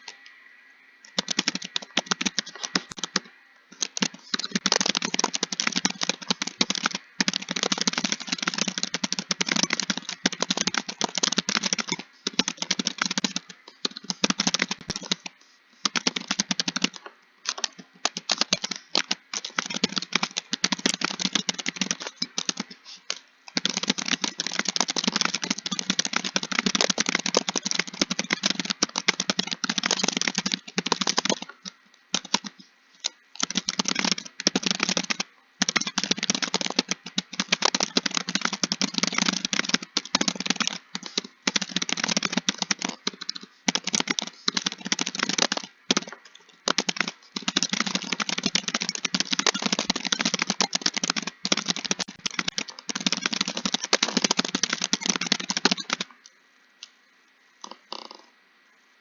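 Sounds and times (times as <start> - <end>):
fast typing on keyboard: 1.1 - 56.2.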